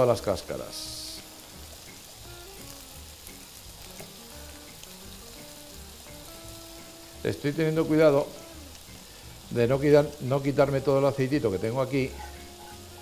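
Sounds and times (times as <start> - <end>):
mushrooms sizzling in a pan: 0.0 - 13.0
soft background music: 0.0 - 13.0.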